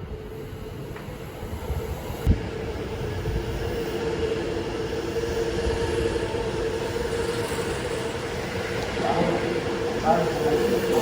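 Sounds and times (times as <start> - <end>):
electric train rumbling: 0.0 - 11.0
steady train hum: 0.0 - 11.0.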